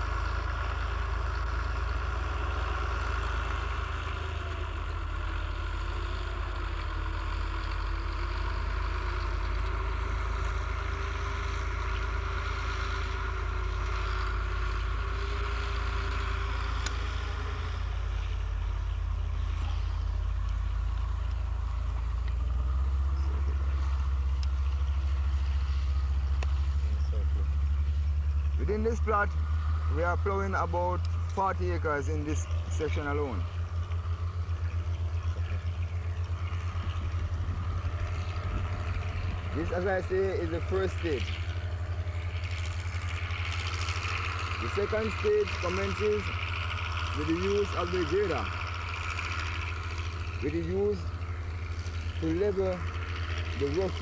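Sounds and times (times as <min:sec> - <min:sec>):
heavy farm machinery engine: 0:00.0 - 0:54.0.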